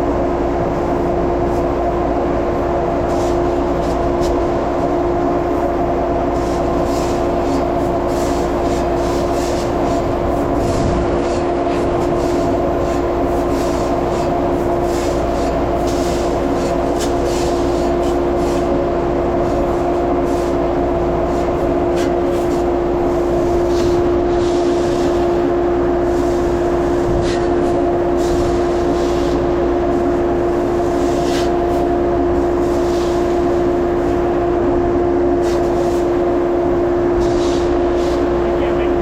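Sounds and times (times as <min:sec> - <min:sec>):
farm machinery engine drone: 0:00.0 - 0:39.0.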